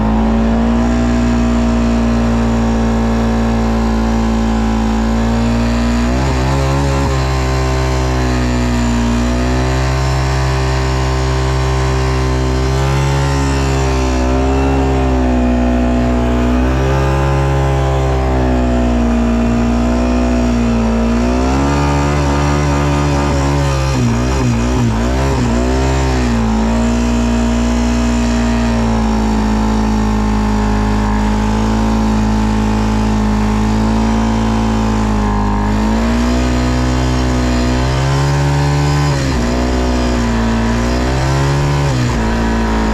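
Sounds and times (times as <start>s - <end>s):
atv engine revving: 0.0s - 42.9s.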